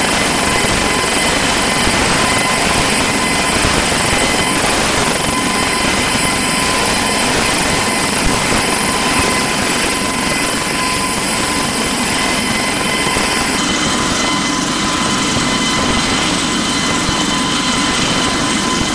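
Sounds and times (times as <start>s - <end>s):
helicopter rotor and turbine whine: 0.0s - 18.9s.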